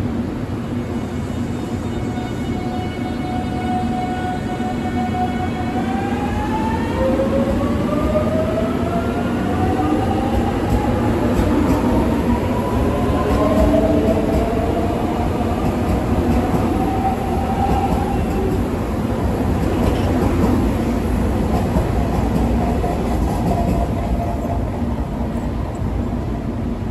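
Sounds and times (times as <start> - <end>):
train wheels rumbling on rails: 3.2 - 26.9.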